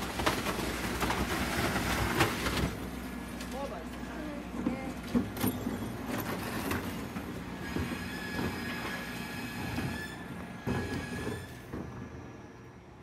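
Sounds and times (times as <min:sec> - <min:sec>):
wheelie bin wheels rumbling: 0:00.0 - 0:12.5.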